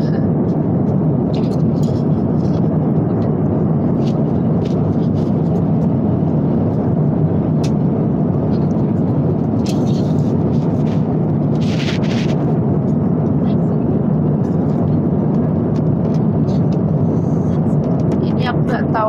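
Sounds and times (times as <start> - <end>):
airliner cabin engine roar: 0.0 - 19.0.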